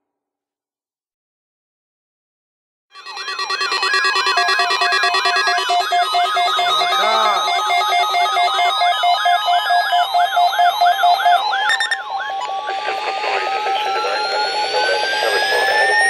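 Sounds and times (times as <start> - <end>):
siren-like rising tone: 3.0 - 16.0
warbling electronic alarm tone: 3.0 - 16.0
fast pulsing beep: 3.1 - 16.0
steady electronic beeps: 3.1 - 16.0.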